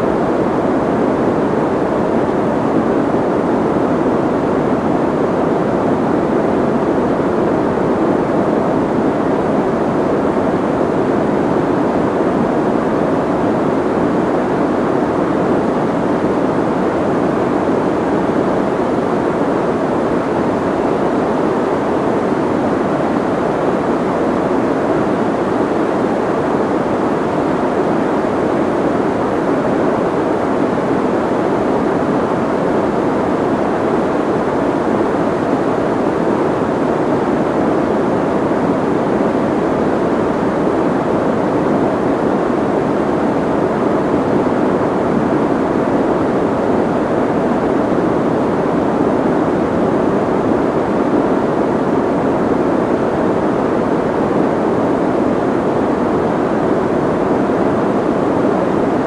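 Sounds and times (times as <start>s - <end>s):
muffled white noise hiss: 0.0s - 59.0s.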